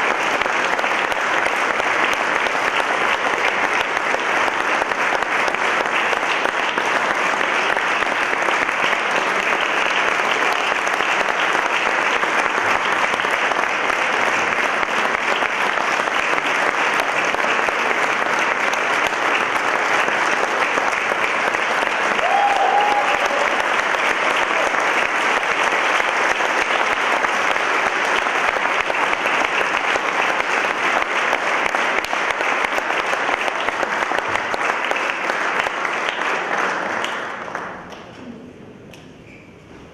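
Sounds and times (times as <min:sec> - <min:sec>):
audience applauding: 0:00.0 - 0:38.1.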